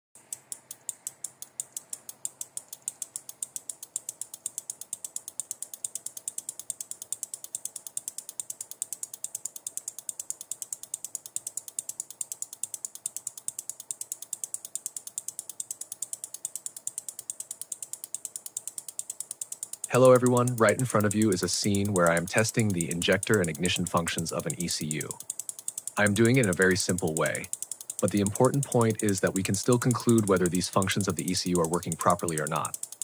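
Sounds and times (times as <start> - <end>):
relays clicking rapidly: 0.2 - 33.0.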